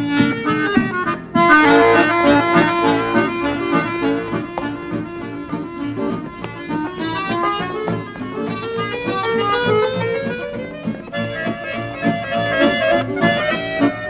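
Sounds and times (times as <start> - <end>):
accordion playing lively tune: 0.0 - 14.0.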